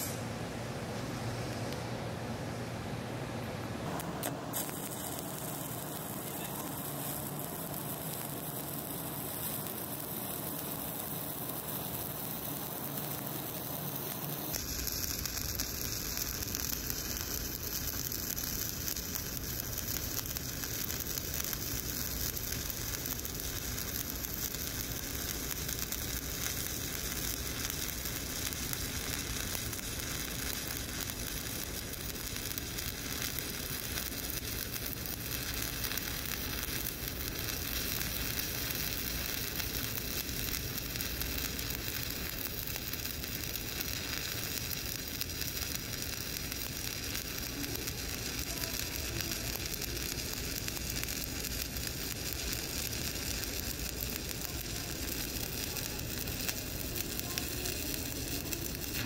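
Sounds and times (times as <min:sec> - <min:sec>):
welding arc burning: 0:03.8 - 0:59.0.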